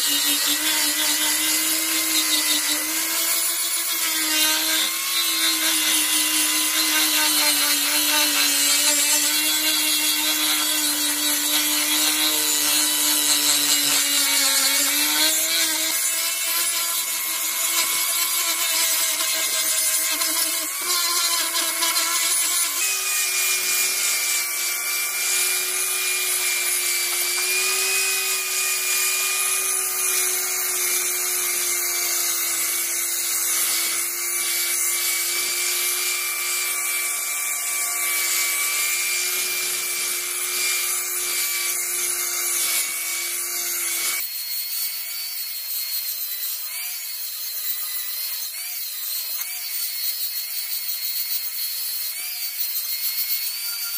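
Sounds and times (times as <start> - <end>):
angle grinder motor whine: 4.6 - 53.9.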